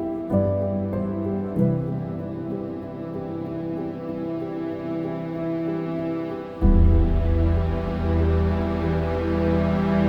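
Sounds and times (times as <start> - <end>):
soft slow background music: 0.0 - 10.0.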